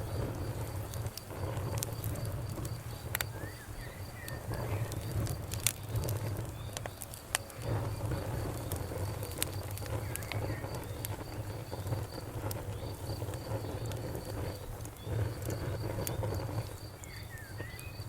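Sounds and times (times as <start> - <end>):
fire crackling: 0.0 - 18.0
insects trilling: 0.0 - 18.0.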